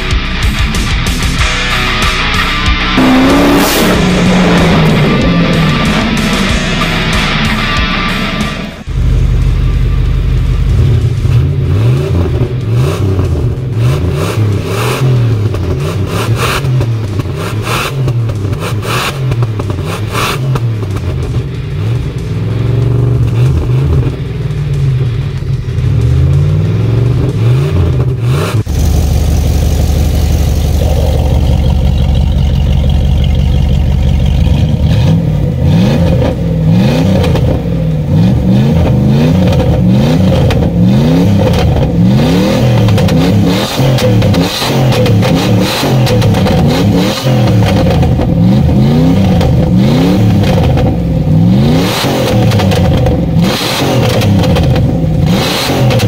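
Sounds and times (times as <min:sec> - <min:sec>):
engine idling: 0:00.0 - 0:56.0
engine revving: 0:00.0 - 0:56.0.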